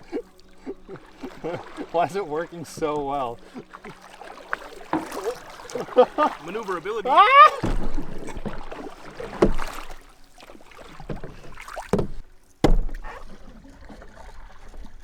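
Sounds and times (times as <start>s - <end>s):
paddle knocking against hull: 0.0s - 15.0s
paddling and water noise: 0.0s - 15.0s.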